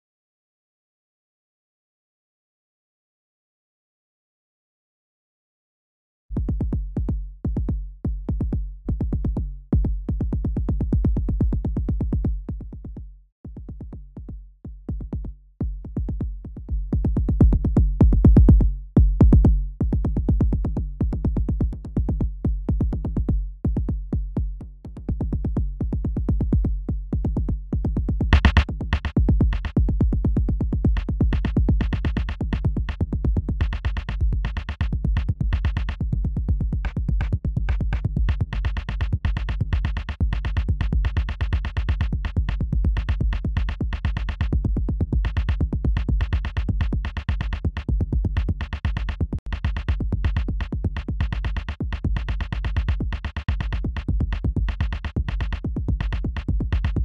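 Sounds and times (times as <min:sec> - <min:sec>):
kick drum thuds: 0:06.4 - 0:57.0.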